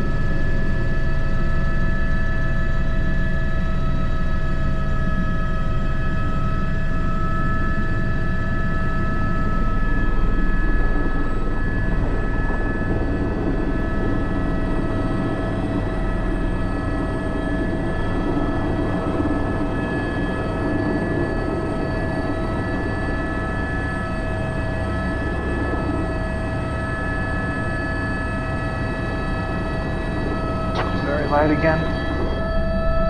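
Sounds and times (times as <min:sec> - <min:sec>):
helicopter rotor rumble: 0:00.0 - 0:33.0
helicopter turbine whine: 0:00.0 - 0:33.0.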